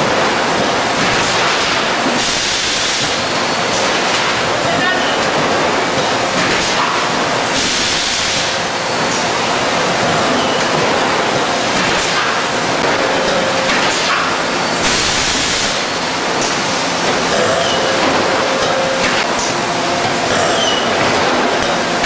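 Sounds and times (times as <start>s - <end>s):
loud machinery noise: 0.0s - 22.0s.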